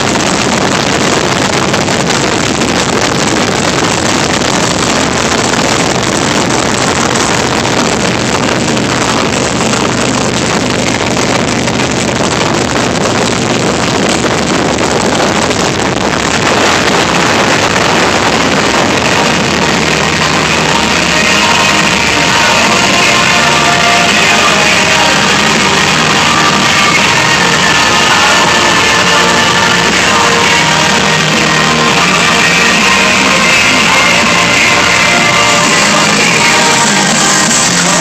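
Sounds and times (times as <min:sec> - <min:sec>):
motorcycle engine drone: 0:00.0 - 0:38.0
wind rushing over microphone: 0:00.0 - 0:38.0.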